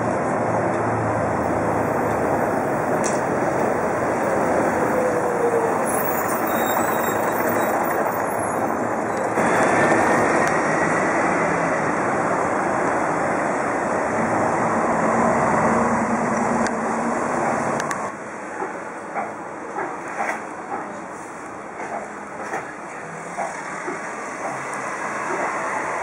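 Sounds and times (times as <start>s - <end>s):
city traffic noise: 0.0s - 26.0s
tram moving on a curve: 0.0s - 26.0s.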